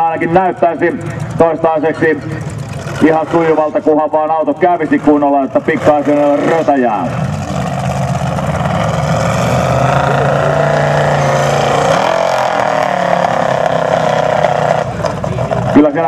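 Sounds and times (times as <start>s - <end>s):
engine running hard: 0.0s - 16.0s.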